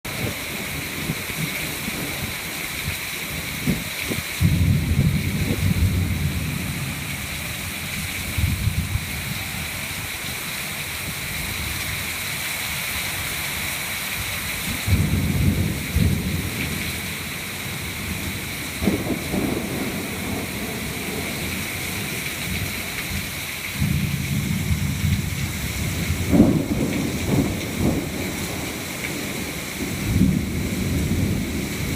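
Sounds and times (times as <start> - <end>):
thunder rumbling: 0.1 - 12.1, 14.2 - 31.9
heavy rain hiss: 0.1 - 31.9.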